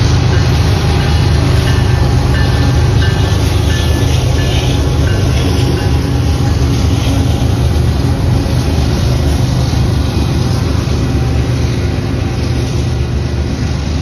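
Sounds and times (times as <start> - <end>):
locomotive engines rumbling: 0.0 - 14.0
wheels on rail: 0.0 - 14.0.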